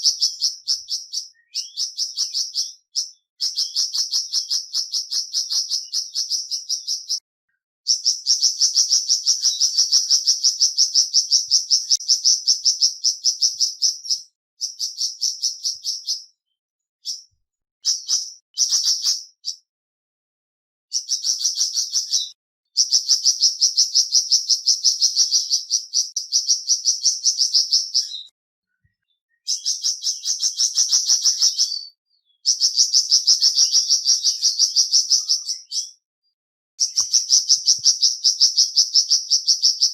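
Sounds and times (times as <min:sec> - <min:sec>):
bird chirping rapidly: 0:00.0 - 0:07.2, 0:07.9 - 0:16.3, 0:17.0 - 0:19.7, 0:20.9 - 0:36.0, 0:36.8 - 0:39.9.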